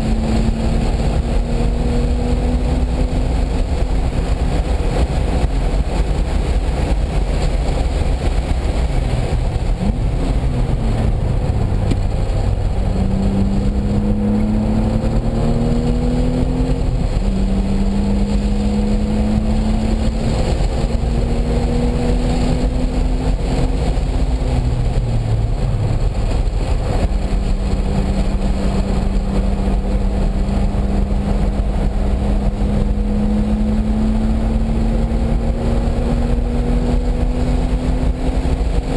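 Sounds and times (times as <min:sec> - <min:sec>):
car engine revving through gears: 0:00.0 - 0:38.9
wind and road noise: 0:00.0 - 0:38.9.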